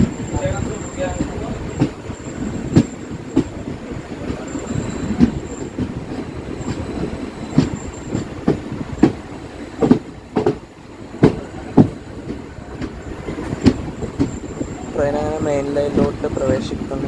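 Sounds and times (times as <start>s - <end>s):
train rumbling: 0.0s - 17.0s
wheels clunking over rail joints: 0.0s - 17.0s.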